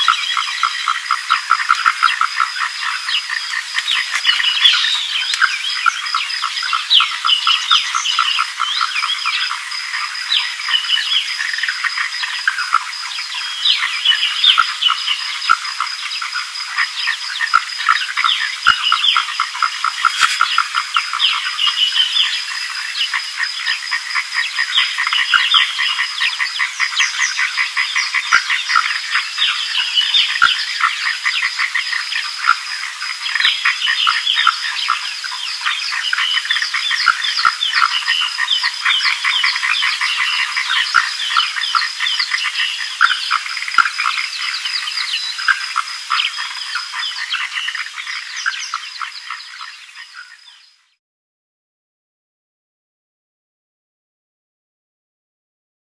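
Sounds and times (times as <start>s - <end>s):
frogs croaking: 0.0s - 51.0s.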